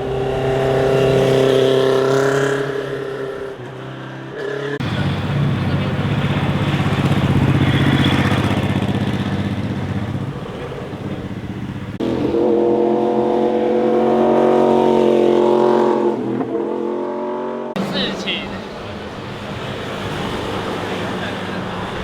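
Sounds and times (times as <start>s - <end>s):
motorcycle engine passing: 0.0s - 22.0s
motorcycle revving high: 0.0s - 22.0s.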